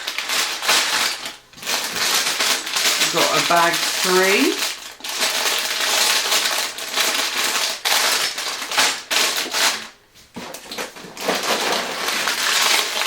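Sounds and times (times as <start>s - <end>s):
plastic bricks clattering: 0.0s - 9.8s, 10.4s - 13.0s
plastic bags crinkling: 0.0s - 13.0s.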